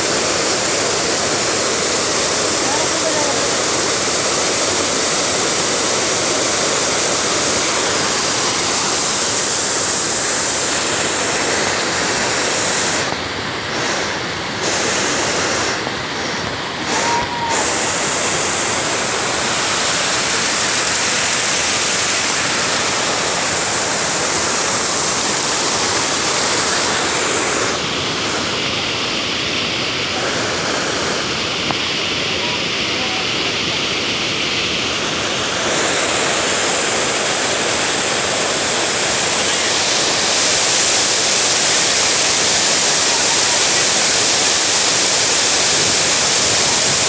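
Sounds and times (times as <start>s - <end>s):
waterfall roar: 0.0s - 47.0s.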